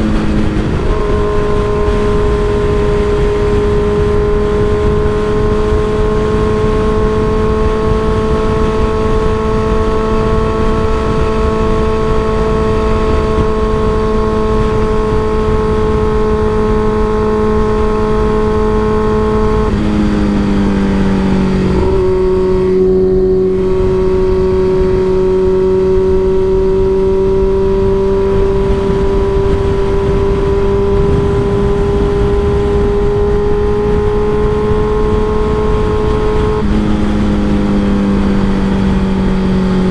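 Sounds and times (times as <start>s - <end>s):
motorcycle cruising: 0.0s - 39.9s
wind noise on microphone: 0.0s - 39.9s.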